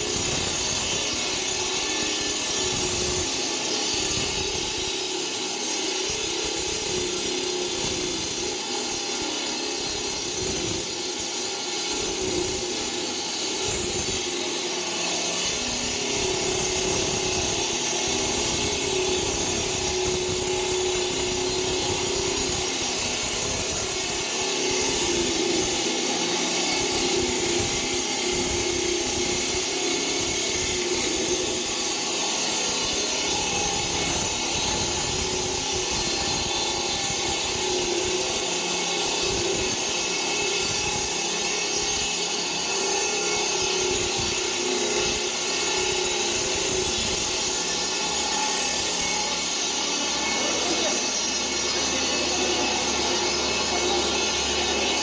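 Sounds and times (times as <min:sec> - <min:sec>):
concrete cutter grinding: 0:00.0 - 0:55.0
constant motor hum: 0:00.0 - 0:55.0.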